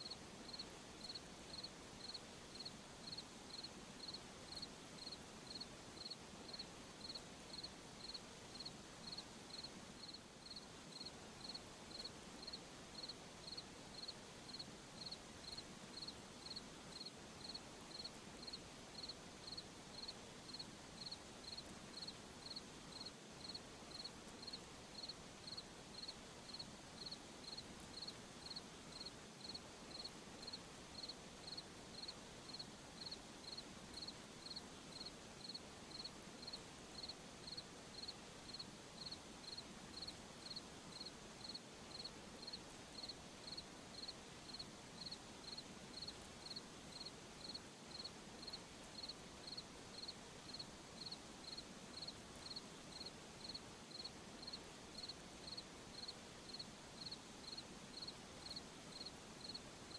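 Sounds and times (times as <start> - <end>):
cricket chirping: 0.0 - 59.9
faint background hiss: 0.0 - 59.9.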